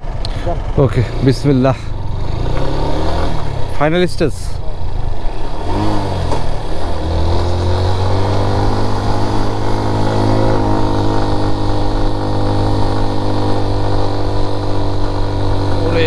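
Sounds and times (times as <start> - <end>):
motorcycle engine labouring uphill: 0.0 - 16.0.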